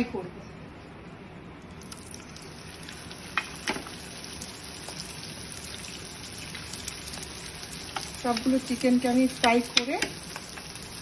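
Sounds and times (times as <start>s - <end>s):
chicken sizzling in hot oil: 1.9s - 11.0s.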